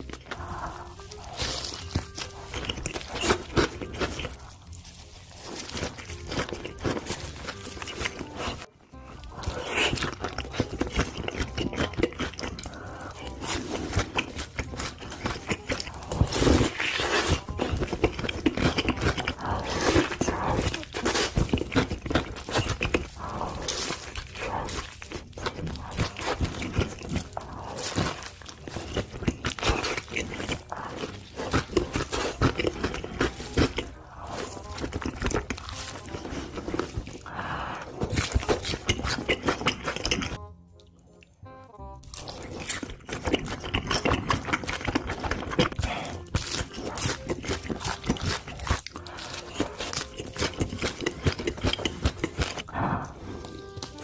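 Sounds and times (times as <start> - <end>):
crunchy bites and chewing: 0.0 - 40.4, 41.9 - 54.0
background music: 0.0 - 54.0.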